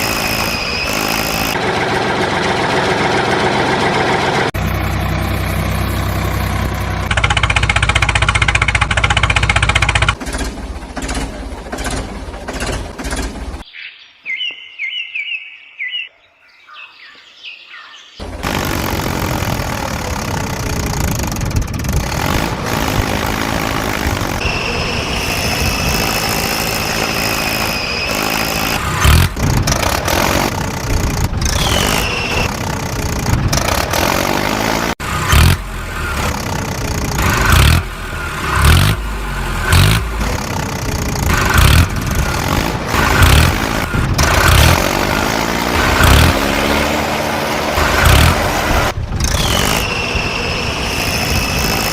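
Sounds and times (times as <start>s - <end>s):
vehicle engines revving: 0.0s - 13.6s, 18.2s - 51.9s.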